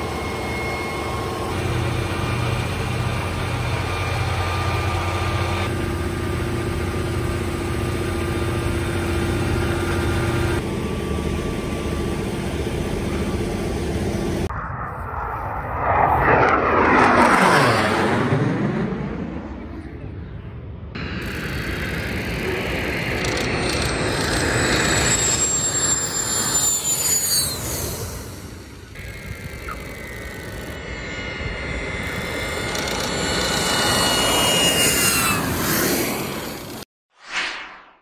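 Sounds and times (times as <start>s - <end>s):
machinery hum: 0.0s - 15.2s, 21.0s - 36.8s
low-flying jet passing: 0.0s - 38.0s.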